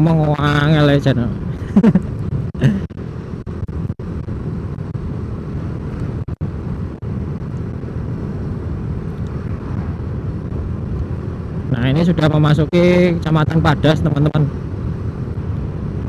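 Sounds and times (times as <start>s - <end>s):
vehicle road noise: 0.0s - 16.0s
wind rushing over microphone: 0.0s - 16.0s.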